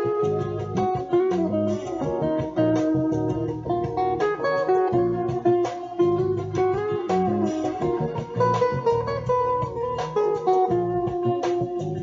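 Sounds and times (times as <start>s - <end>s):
bass line: 0.0s - 12.0s
plucked guitar: 0.0s - 12.0s.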